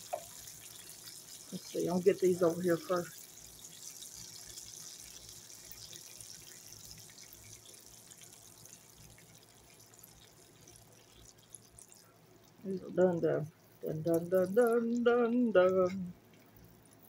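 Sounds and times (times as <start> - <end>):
bacon sizzling: 0.0 - 17.0.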